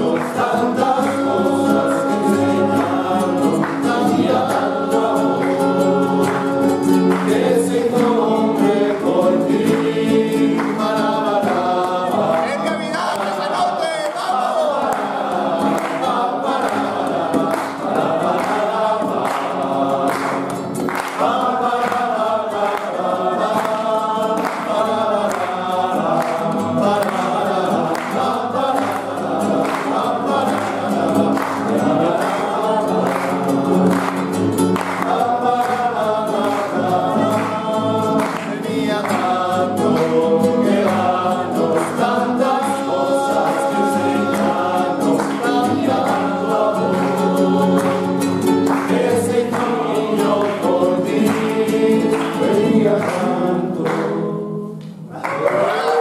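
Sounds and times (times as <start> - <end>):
strummed acoustic guitars: 0.0 - 55.2
group singing a carol: 0.0 - 56.0.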